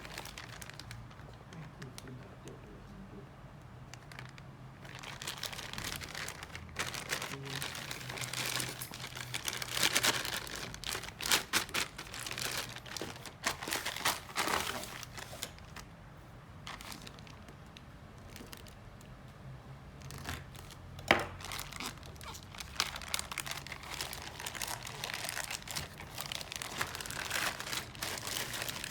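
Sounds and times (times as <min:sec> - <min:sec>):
packaging crinkling and rustling: 0:00.0 - 0:02.2, 0:03.9 - 0:15.9, 0:16.7 - 0:19.1, 0:20.0 - 0:28.9.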